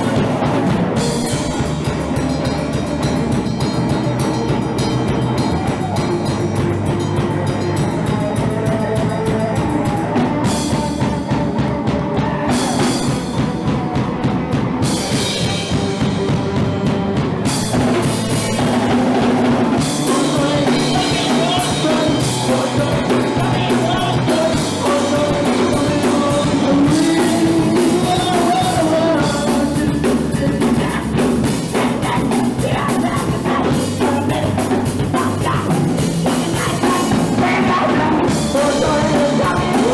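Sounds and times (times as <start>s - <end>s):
drum kit: 0.0s - 39.9s
person singing: 0.0s - 39.9s
punk rock band playing live: 0.0s - 39.9s.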